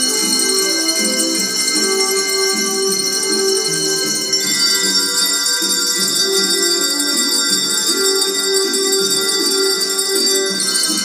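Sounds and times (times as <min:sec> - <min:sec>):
handbells playing a tune: 0:00.0 - 0:11.0.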